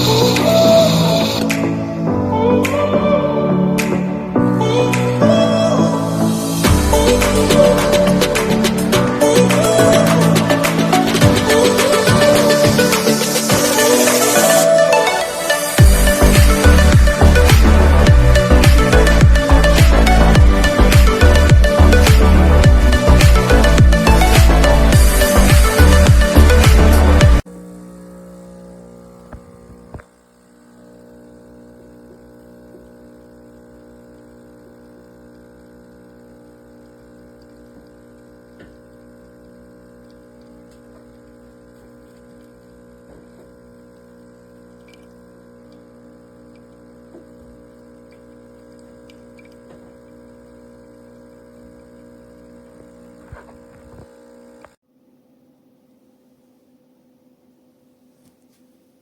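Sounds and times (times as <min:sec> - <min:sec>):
espresso machine pump humming: 0:00.0 - 0:03.4, 0:04.7 - 0:54.8.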